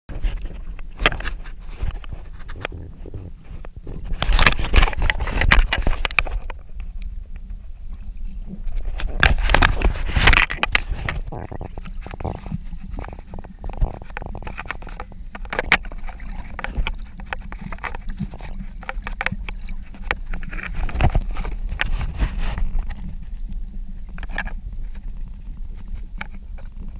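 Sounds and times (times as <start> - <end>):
muffled underwater rumble: 0.1 - 26.9
water crackling and bubbling: 0.1 - 26.9.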